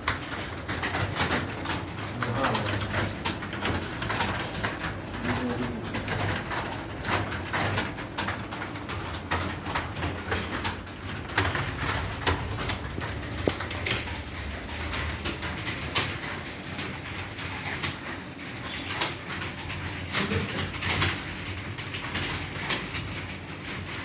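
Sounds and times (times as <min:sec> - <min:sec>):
computer keyboard typing: 0:00.0 - 0:24.0.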